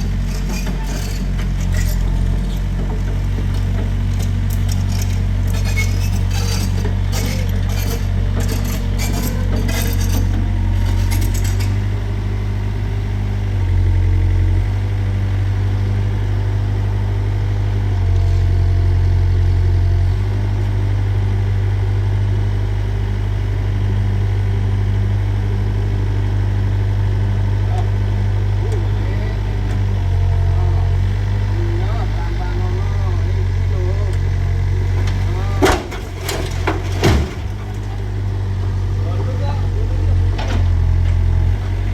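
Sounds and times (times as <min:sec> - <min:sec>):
excavator engine running: 0:00.0 - 0:41.9.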